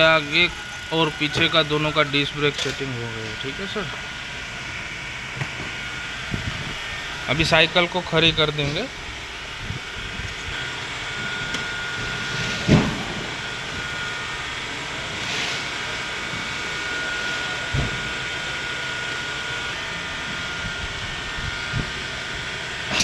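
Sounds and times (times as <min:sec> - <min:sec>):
fan-like background hum: 0:00.0 - 0:23.0.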